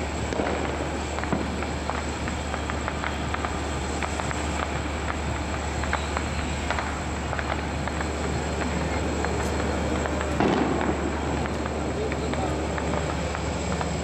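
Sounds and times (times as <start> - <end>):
train rolling past: 0.0 - 14.0
wheels clicking and clacking: 0.3 - 14.0.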